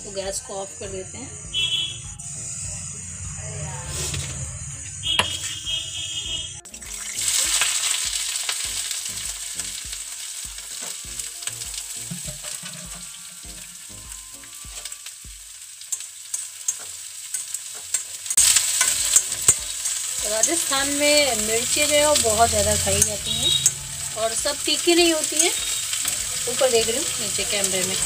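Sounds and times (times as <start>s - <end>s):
chillies sizzling in hot oil: 0.0s - 28.0s.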